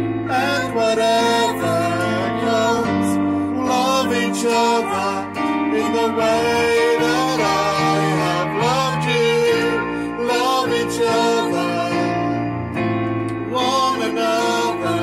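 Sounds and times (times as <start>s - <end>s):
person singing worship song: 0.2s - 15.0s.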